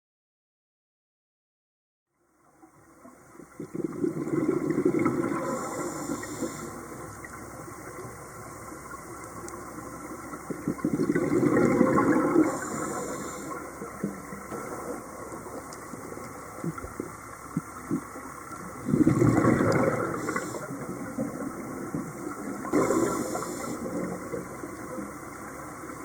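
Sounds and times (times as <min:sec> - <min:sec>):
exhaled bubbles underwater: 0:03.0 - 0:26.0.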